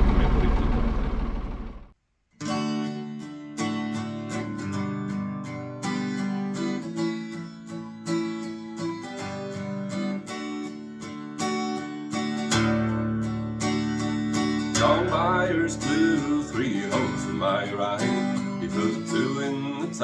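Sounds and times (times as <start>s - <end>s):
strummed acoustic guitar: 2.4s - 20.0s.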